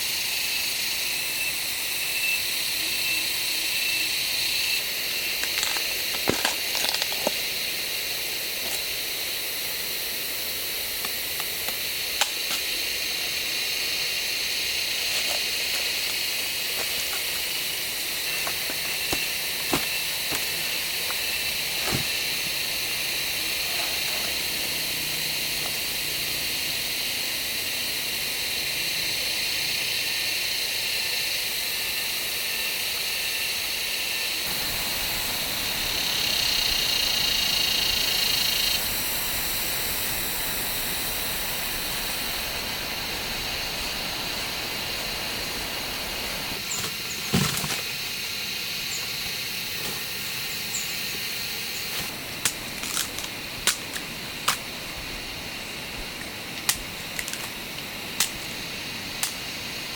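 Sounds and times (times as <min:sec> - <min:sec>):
high-pitched hiss: 0:00.0 - 0:59.9.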